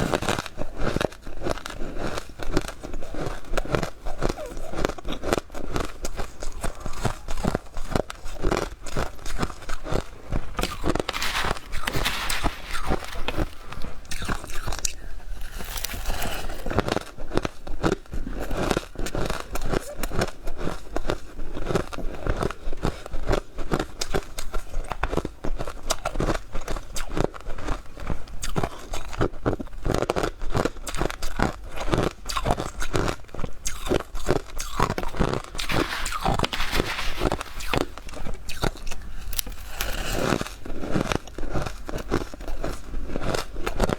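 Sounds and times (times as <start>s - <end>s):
crunching frost in mouth: 0.0s - 27.8s, 29.9s - 43.9s.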